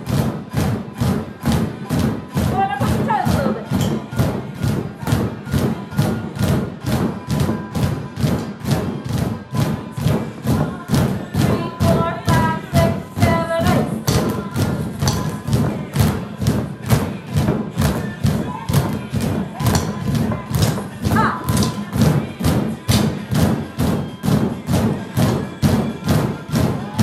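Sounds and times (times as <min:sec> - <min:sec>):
drumsticks thudding on exercise balls: 0:00.0 - 0:27.0
upbeat music with steady beat: 0:00.0 - 0:27.0.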